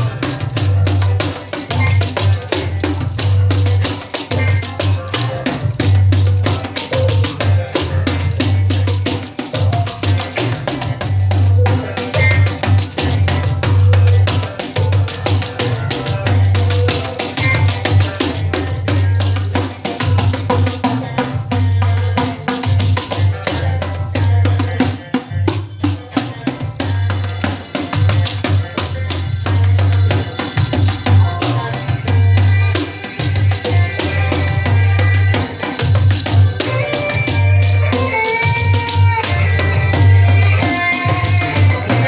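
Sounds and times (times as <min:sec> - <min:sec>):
pandeiro playing rhythm: 0:00.0 - 0:42.0
recorded song with bass: 0:00.0 - 0:42.0.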